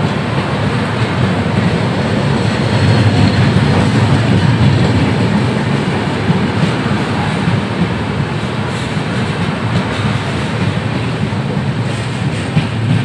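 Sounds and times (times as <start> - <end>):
express train passing: 0.0 - 13.0.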